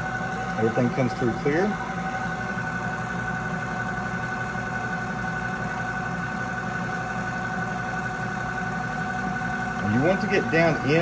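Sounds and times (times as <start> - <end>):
pump humming with a whine: 0.0 - 11.0.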